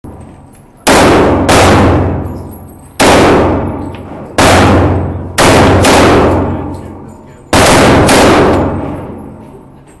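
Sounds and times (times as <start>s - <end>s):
pistol shots with echo: 0.8s - 9.4s.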